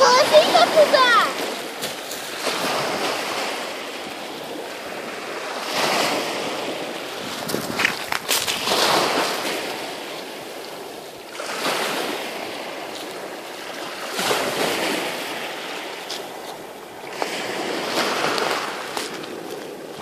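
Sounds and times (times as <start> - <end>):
waves washing on pebble beach: 0.0 - 20.0.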